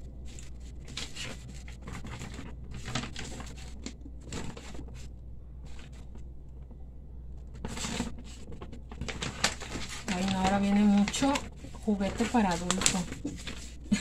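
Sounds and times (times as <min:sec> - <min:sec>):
paper rustling: 0:00.0 - 0:06.3, 0:07.4 - 0:14.0.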